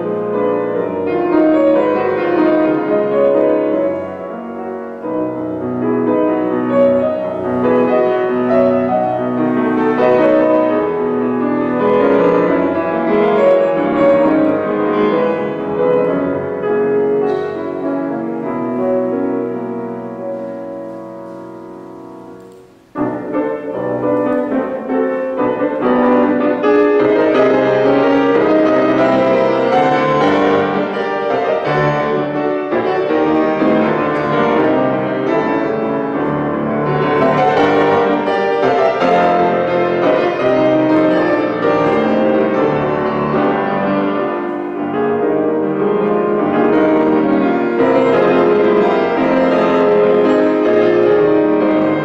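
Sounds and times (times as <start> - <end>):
solo grand piano: 0.0 - 52.0.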